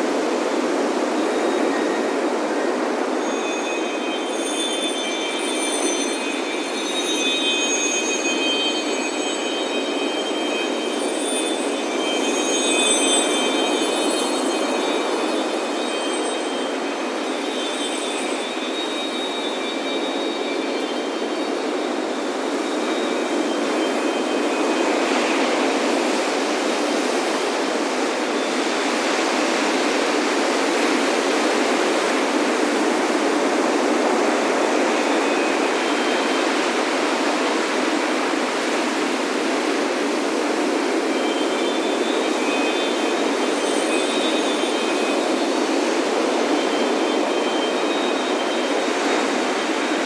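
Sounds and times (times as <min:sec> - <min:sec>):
wind chimes ringing: 0:00.0 - 0:50.0.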